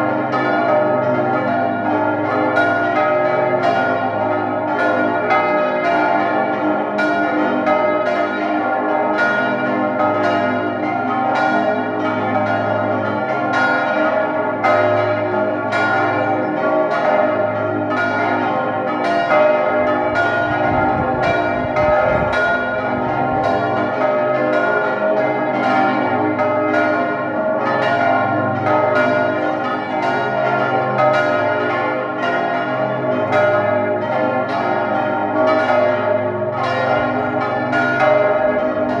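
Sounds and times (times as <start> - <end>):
church bells pealing: 0.0 - 39.0.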